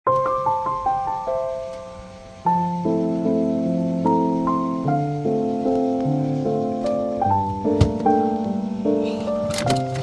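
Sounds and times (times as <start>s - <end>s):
sustained keyboard notes: 0.1s - 10.0s.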